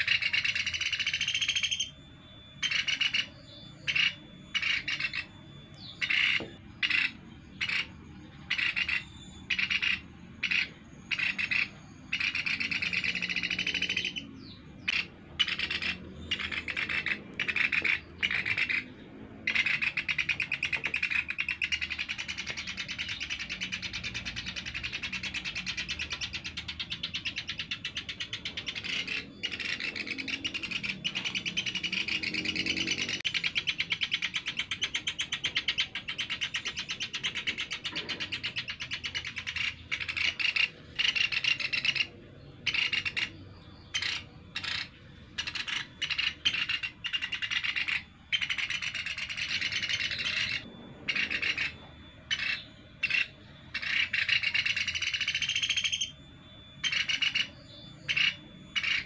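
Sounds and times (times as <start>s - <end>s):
woodpeckers rasping chatter: 0.0s - 59.0s.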